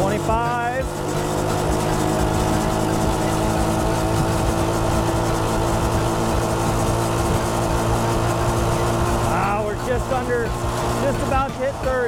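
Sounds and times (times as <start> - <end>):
small motorbike engine at full throttle: 0.0 - 12.0.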